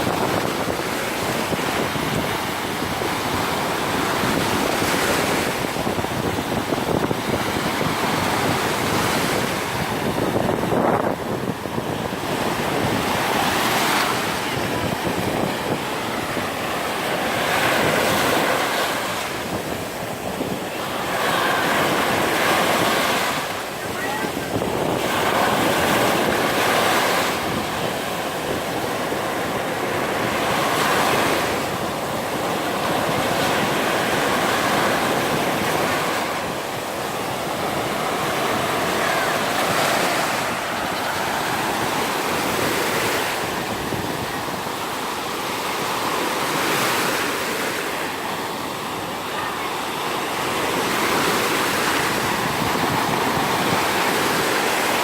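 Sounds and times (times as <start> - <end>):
small waves breaking on beach: 0.0 - 55.0
wind on microphone: 0.0 - 55.0.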